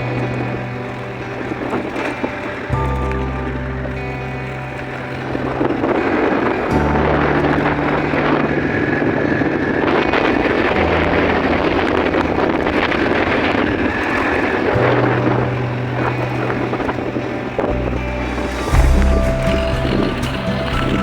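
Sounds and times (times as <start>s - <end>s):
low background music: 0.0s - 21.0s.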